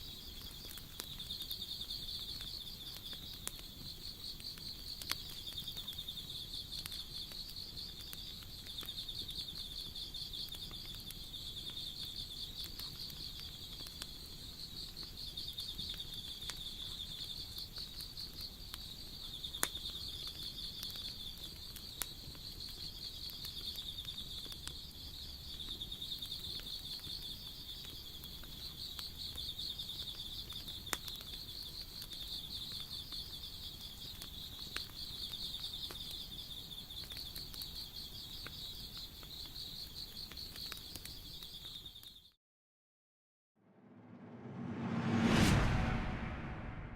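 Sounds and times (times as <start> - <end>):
campfire wood crackling and popping: 0.0 - 42.1.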